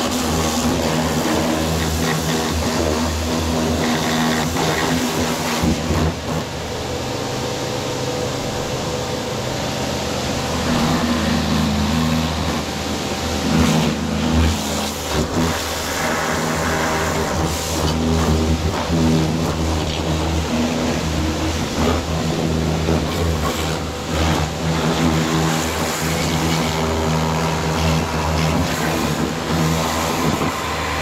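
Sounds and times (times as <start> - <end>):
pressure washer motor hum: 0.0 - 31.0
water jet hissing: 0.0 - 31.0.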